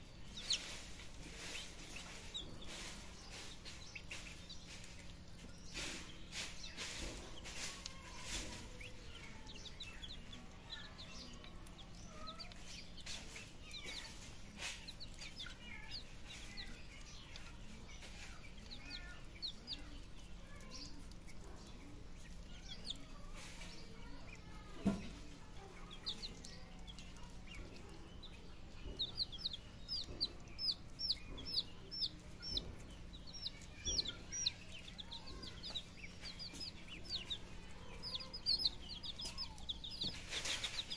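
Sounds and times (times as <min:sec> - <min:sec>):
chicks and ducklings peeping: 0:00.0 - 0:40.9.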